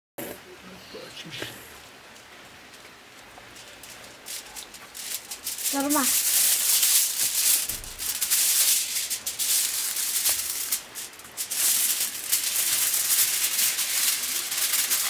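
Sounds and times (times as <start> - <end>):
aluminium foil crinkling: 1.7 - 15.0.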